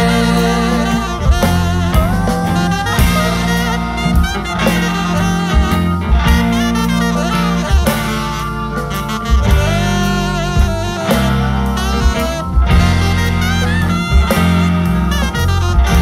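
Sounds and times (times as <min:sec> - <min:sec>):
drums: 0:00.0 - 0:16.0
electric guitars: 0:00.0 - 0:16.0
saxophone melody: 0:00.0 - 0:16.0.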